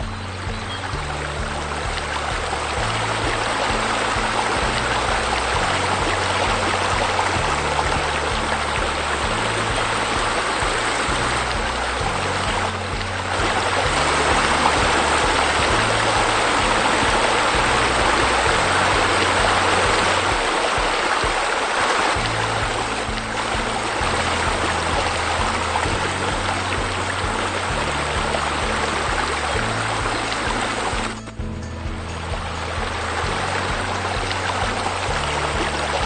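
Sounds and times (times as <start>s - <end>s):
music with low held chords: 0.0s - 36.0s
rush of falling water: 0.0s - 36.0s.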